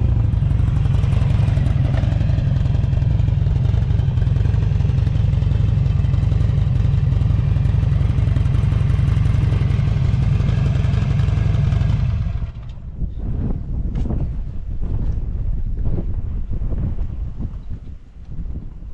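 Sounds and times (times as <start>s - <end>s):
motorcycle engine rumbling: 0.0s - 18.9s.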